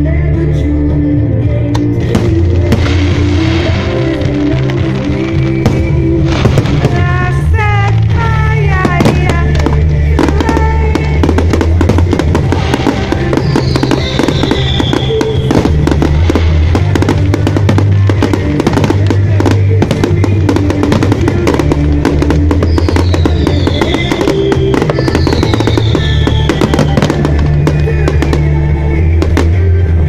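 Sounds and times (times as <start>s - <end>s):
loud music with heavy bass: 0.0s - 30.0s
fireworks bursting and crackling: 1.8s - 30.0s.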